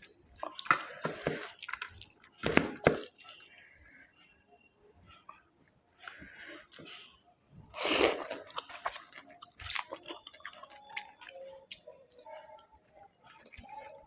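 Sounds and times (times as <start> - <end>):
person chewing food: 0.0 - 3.9, 5.1 - 14.0.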